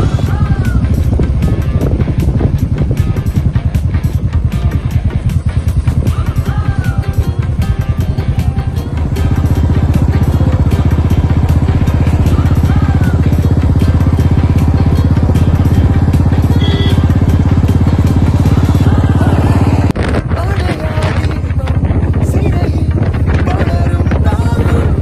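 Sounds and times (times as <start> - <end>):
single-cylinder motorcycle engine running: 0.0 - 25.0.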